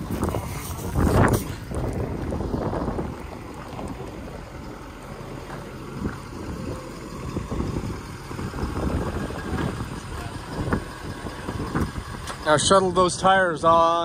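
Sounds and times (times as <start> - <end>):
wind buffeting microphone: 0.0 - 13.2
pickup truck engine running: 0.0 - 14.0.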